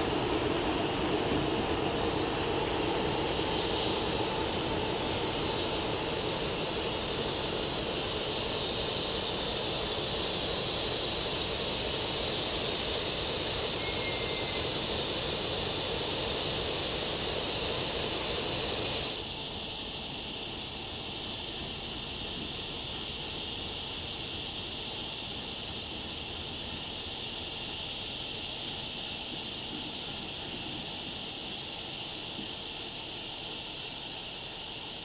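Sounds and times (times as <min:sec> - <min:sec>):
diesel locomotive engine rumbling: 0:00.0 - 0:35.0.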